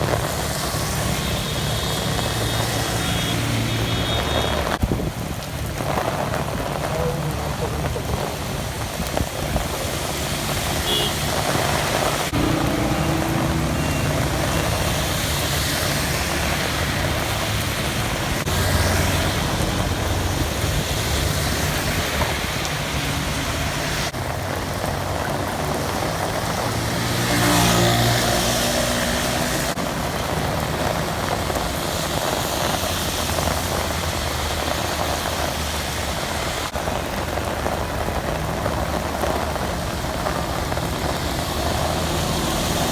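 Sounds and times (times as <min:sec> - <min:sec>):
steady rain: 0:00.0 - 0:42.9
traffic on a wet street: 0:00.0 - 0:42.9.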